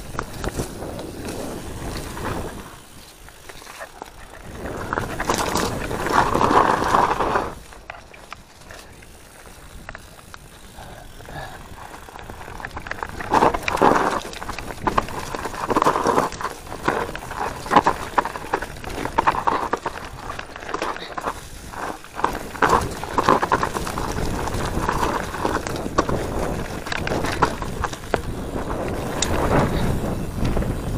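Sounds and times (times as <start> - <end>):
wind rushing over microphone: 0.0 - 3.1, 4.1 - 30.9
bike rattling over bumps: 0.0 - 30.9
bike tyres rolling on dirt: 0.0 - 30.9.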